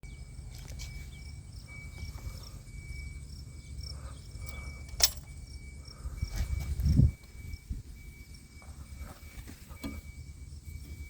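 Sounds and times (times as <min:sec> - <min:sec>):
insects trilling: 0:00.1 - 0:11.0.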